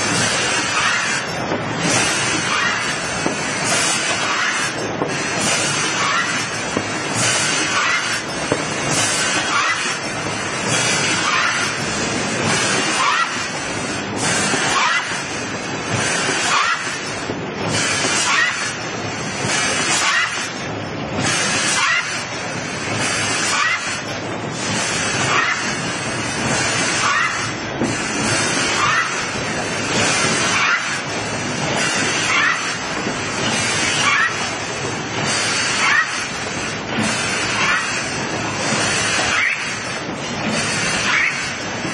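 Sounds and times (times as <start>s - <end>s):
machine mechanical rush: 0.0s - 41.9s.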